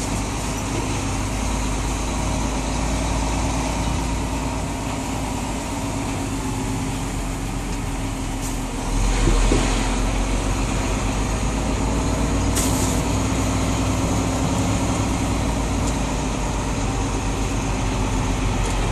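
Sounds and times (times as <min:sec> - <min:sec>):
vehicle engine rumble: 0:00.0 - 0:18.9.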